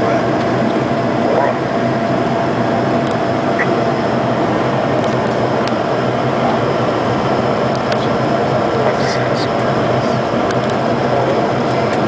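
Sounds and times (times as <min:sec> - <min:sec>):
jet engines with faint whine: 0:00.0 - 0:12.0.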